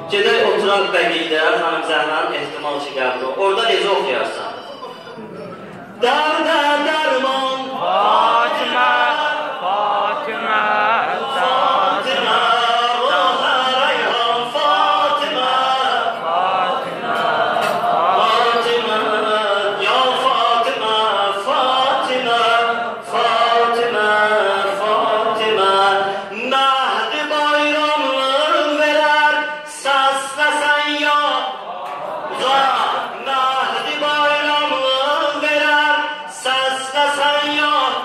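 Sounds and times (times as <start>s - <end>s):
man chanting a devotional hymn: 0.0s - 4.7s, 6.0s - 38.0s.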